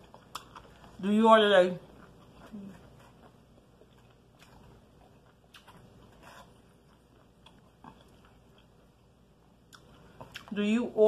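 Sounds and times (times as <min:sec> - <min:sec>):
chewing and mouth sounds: 0:00.0 - 0:10.6.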